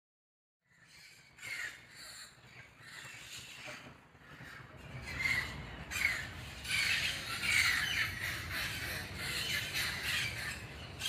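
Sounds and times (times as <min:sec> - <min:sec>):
parrots squawking: 0:00.7 - 0:11.0.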